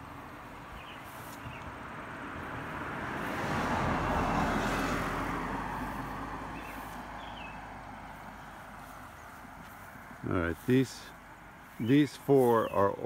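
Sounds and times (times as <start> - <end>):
vehicle driving past: 0.8 - 11.8.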